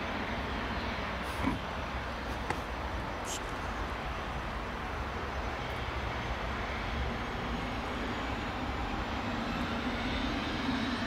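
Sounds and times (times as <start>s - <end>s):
jet engines humming with whine: 0.0s - 11.0s.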